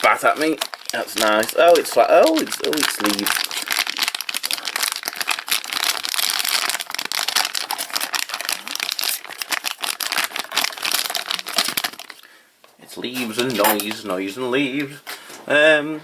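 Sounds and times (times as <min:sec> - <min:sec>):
plastic sachet crinkling: 0:00.0 - 0:12.3, 0:13.1 - 0:14.4.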